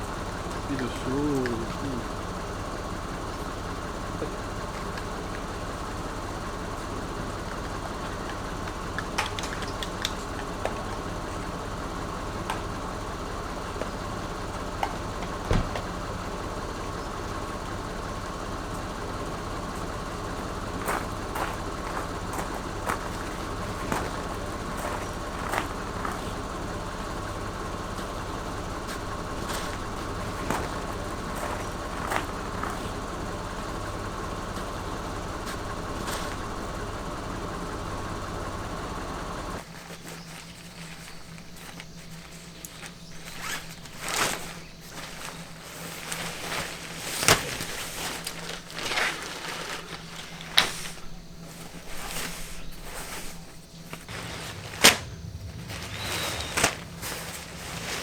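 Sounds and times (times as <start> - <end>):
machine hum: 0.0 - 58.0.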